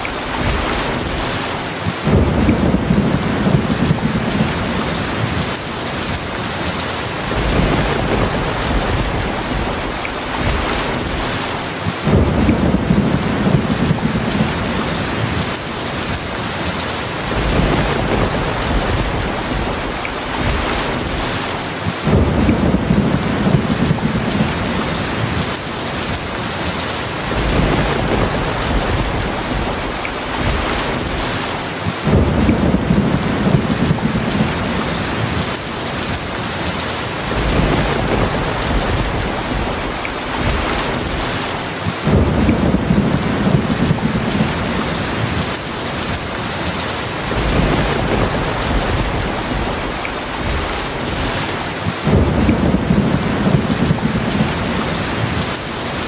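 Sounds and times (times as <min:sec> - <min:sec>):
heavy rain: 0:00.0 - 0:56.0
rolling thunder rumbles: 0:00.0 - 0:56.0.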